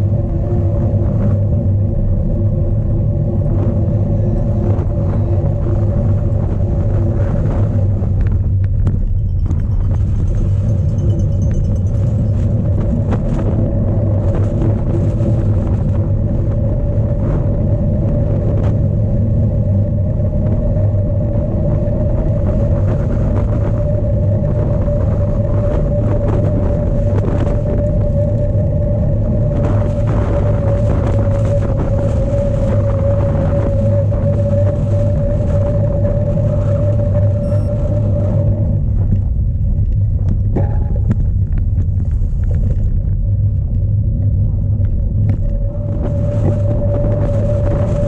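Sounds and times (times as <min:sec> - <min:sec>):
constant hum: 0:00.0 - 0:48.0
wind buffeting microphone: 0:00.0 - 0:48.0.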